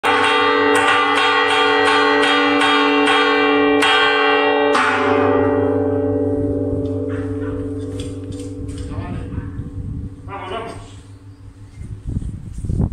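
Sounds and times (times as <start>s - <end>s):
church bell ringing: 0.0s - 12.6s.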